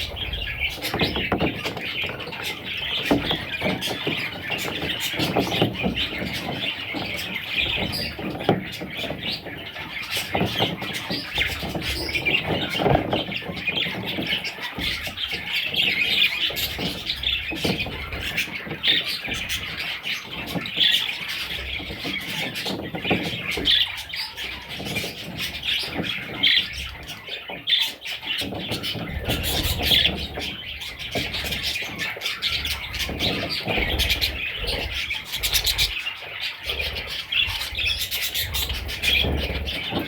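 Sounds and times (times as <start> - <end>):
bird chicks chattering: 0.0 - 40.0.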